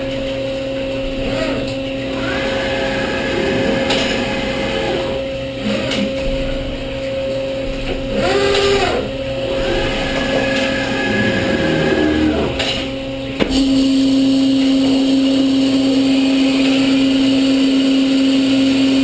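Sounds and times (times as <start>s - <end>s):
machine motor hum: 0.0s - 19.0s
machine whine: 0.0s - 19.0s.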